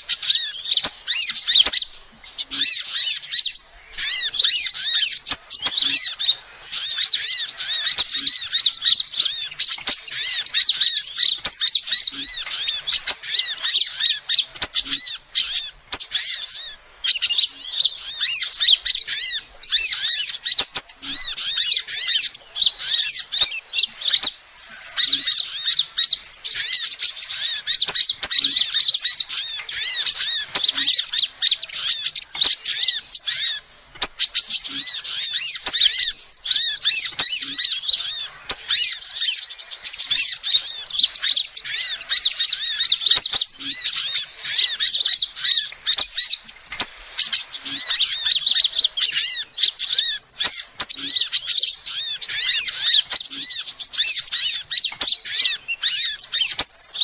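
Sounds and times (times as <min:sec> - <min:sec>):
bird chirping high and sharp: 0:00.0 - 0:57.0.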